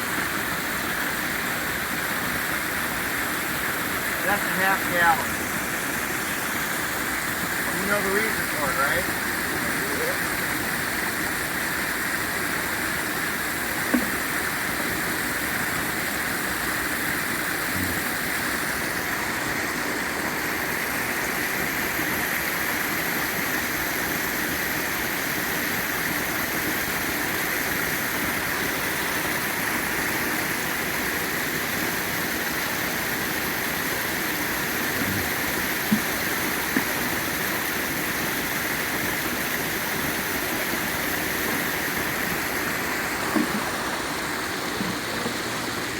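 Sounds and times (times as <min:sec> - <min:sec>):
waterfall splashing: 0:00.0 - 0:45.9.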